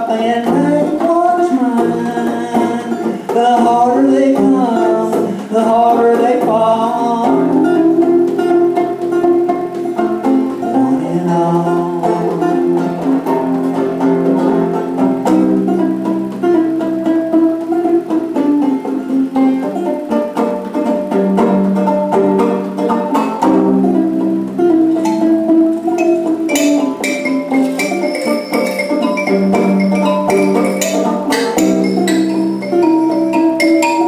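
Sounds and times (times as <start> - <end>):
solo banjo playing: 0.0 - 34.0.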